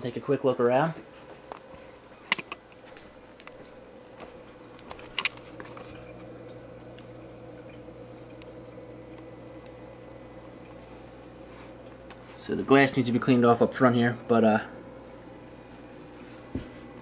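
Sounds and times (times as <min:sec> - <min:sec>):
aquarium equipment humming: 0:00.0 - 0:17.0.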